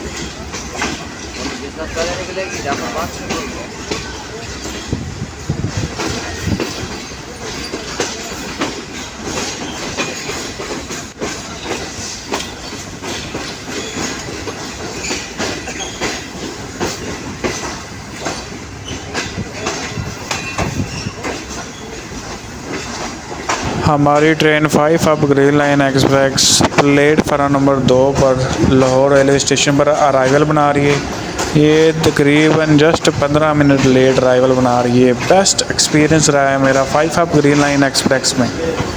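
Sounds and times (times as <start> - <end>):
train wheels clattering over rail joints: 0.0 - 38.9
wheel squealing on rail: 0.0 - 38.9.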